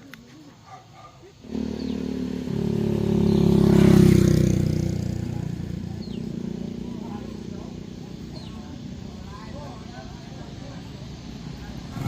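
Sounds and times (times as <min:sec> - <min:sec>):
vehicle engine passing by: 0:01.4 - 0:12.0.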